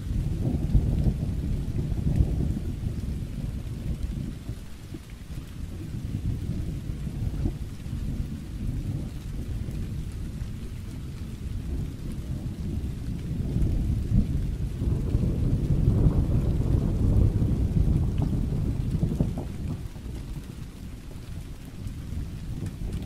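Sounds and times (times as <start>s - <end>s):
steady rain: 0.0s - 23.0s
thunder rumbling: 0.0s - 23.0s.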